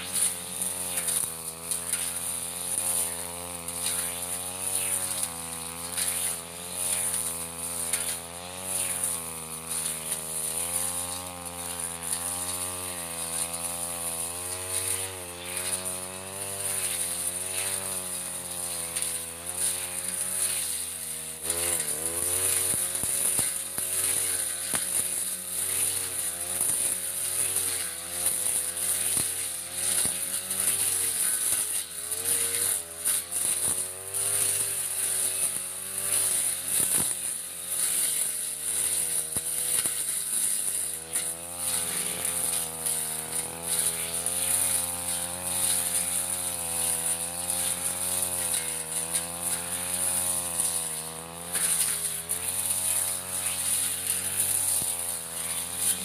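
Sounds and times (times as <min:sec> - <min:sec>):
brush cutter engine running: 0:00.0 - 0:56.0
grass being cut crackle: 0:00.0 - 0:56.0.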